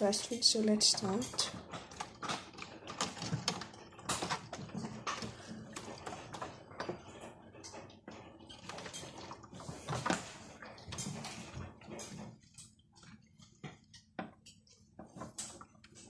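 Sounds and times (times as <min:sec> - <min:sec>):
toy washing machine motor rattling: 0:00.0 - 0:16.0.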